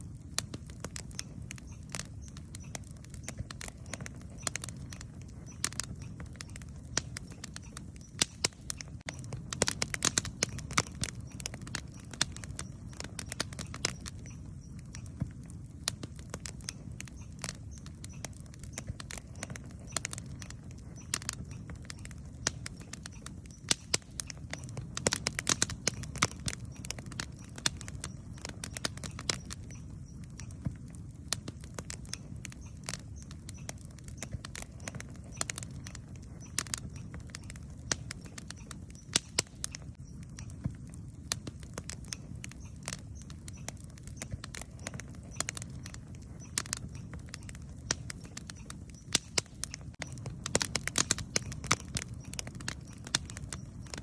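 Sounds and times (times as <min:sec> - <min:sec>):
campfire crackles and pops: 0:00.0 - 0:54.0
flame rumbling: 0:00.0 - 0:54.0.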